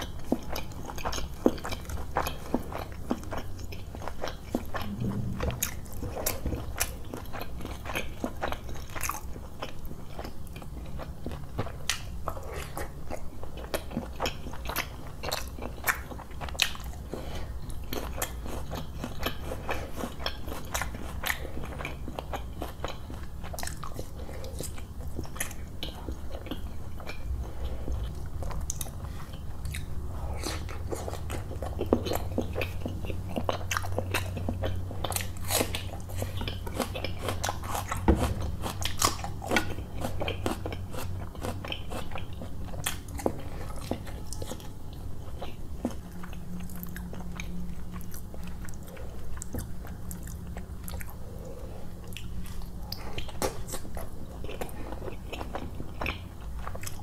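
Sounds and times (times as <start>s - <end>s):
chewing with mouth clicks: 0.0s - 57.0s.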